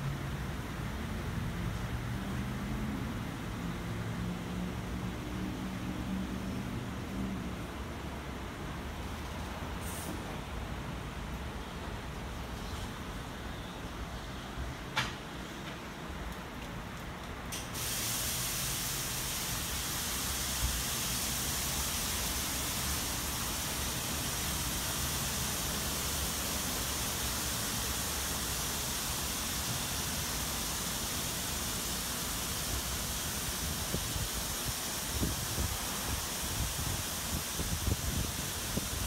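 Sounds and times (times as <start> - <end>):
car wash water spray hiss: 0.0 - 14.0, 14.6 - 39.0.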